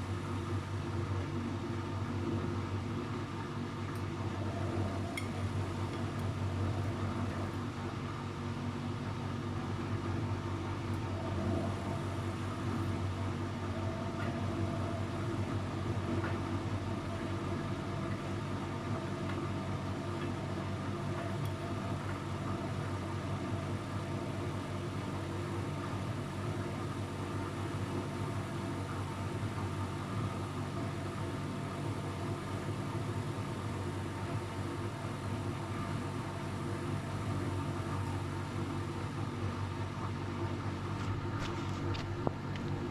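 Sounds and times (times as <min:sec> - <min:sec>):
washing machine spinning: 0:00.0 - 0:42.9.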